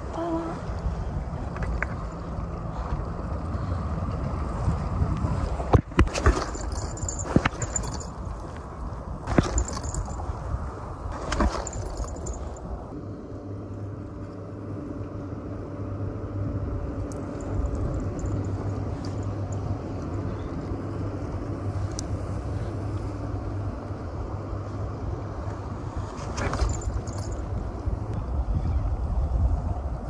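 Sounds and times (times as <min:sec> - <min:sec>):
engine humming: 0:00.0 - 0:28.4
low wind rumble: 0:00.0 - 0:30.0.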